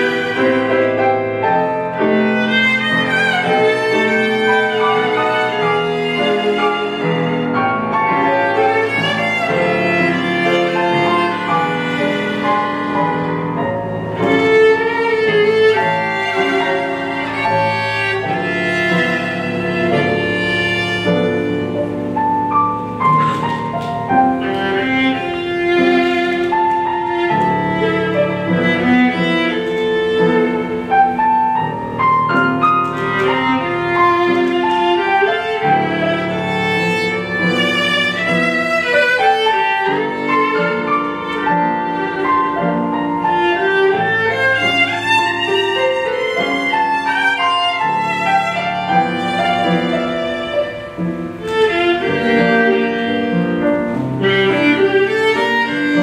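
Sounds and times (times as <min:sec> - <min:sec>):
piano accompaniment: 0:00.0 - 0:56.0
viola melody: 0:00.0 - 0:56.0.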